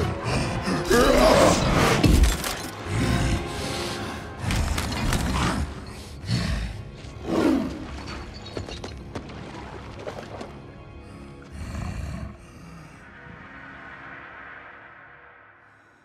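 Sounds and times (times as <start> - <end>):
film soundtrack music: 0.0 - 16.0.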